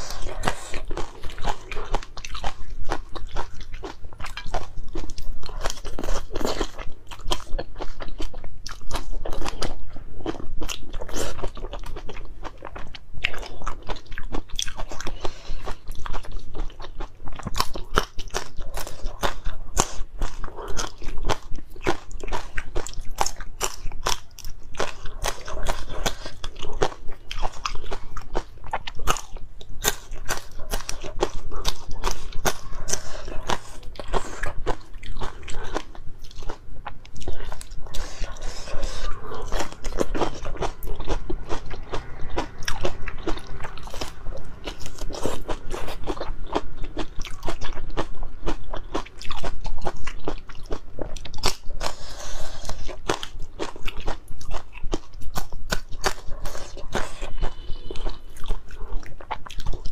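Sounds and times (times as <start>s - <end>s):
crunching and chewing peppers: 0.0s - 59.9s.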